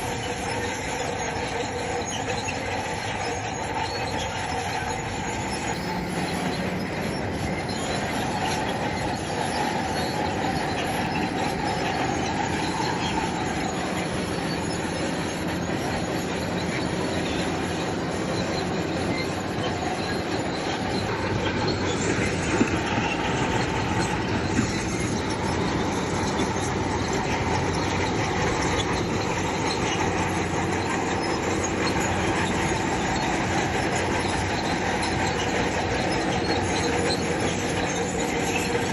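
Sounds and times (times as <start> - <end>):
bulldozer engine running: 0.0 - 38.9
steel tracks clanking and squealing: 0.0 - 38.9.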